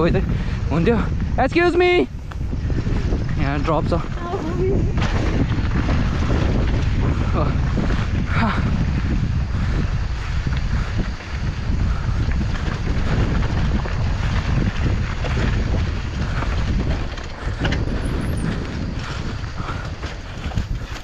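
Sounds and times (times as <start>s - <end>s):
bike tyres on dirt: 0.0s - 21.0s
wind rumbling on microphone: 0.0s - 21.0s
bike knocks and rattles: 2.4s - 21.0s.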